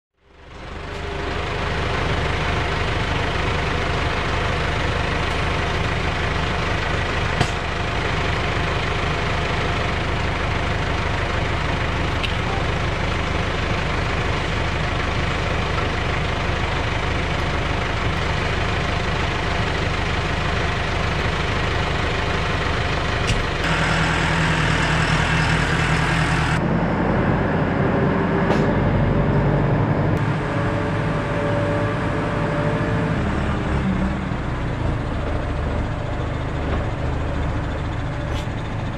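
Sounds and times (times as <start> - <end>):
tractor diesel engine idling: 0.2 - 38.9
tractor driving on gravel: 0.2 - 38.9.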